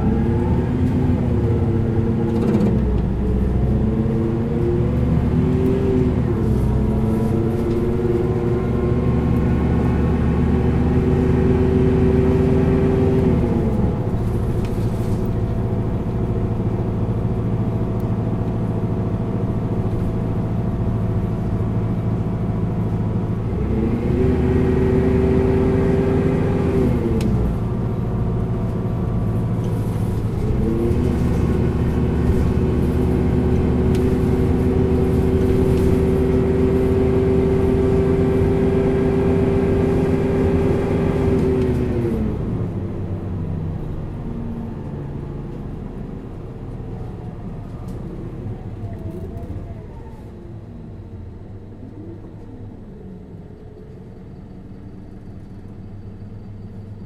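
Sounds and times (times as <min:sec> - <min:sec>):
bus diesel engine labouring: 0:00.0 - 0:57.0.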